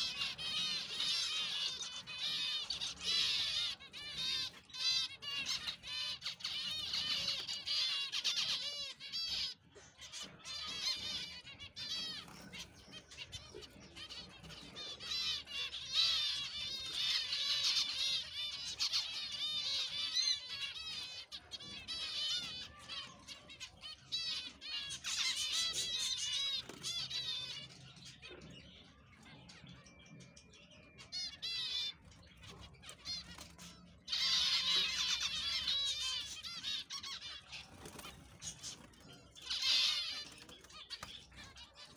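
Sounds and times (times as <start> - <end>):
finches chirping: 0.0 - 41.9.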